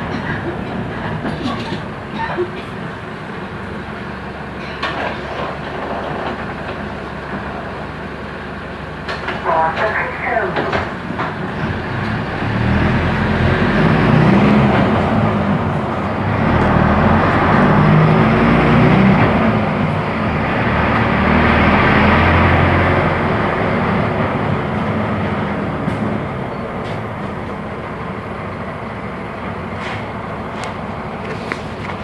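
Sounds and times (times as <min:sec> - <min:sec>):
bus diesel engine running: 0:00.0 - 0:32.0.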